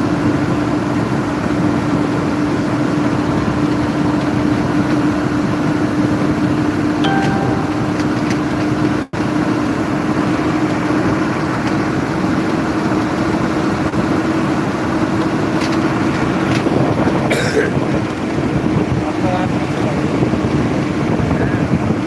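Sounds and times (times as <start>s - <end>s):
road and wind noise: 0.0s - 6.8s, 9.3s - 22.0s.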